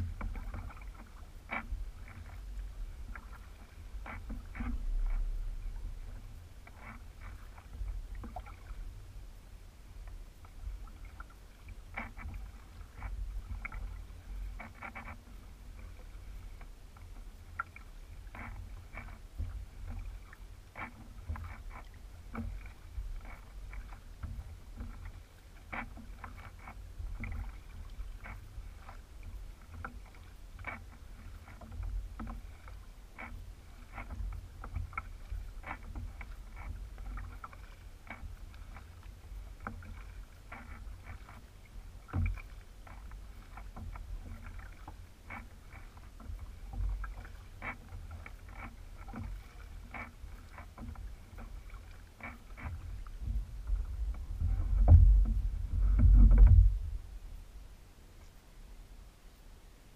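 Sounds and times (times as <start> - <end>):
ticks and drips from paddle: 0.0 - 9.1, 9.8 - 57.0
low steady rumble: 0.0 - 59.9.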